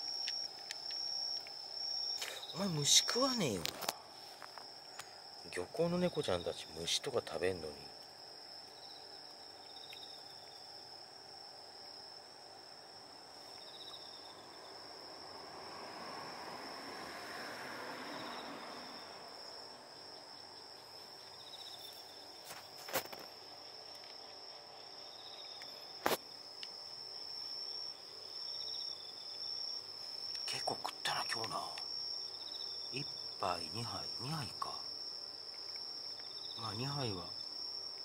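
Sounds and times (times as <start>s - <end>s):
insects trilling: 0.0s - 38.0s
soft insect chirp: 0.0s - 38.0s.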